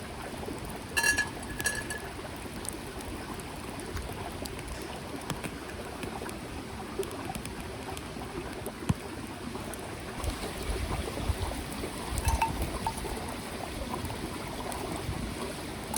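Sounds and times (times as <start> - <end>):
small stream running: 0.0 - 15.9.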